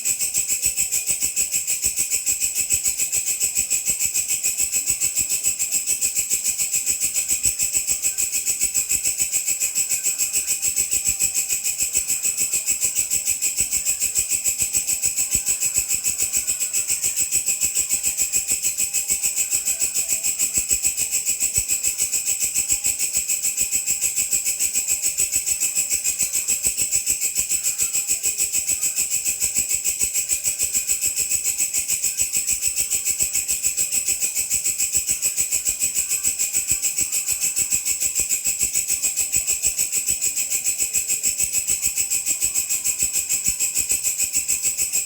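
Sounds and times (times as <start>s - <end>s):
grasshopper rasping trill: 0.0s - 45.0s.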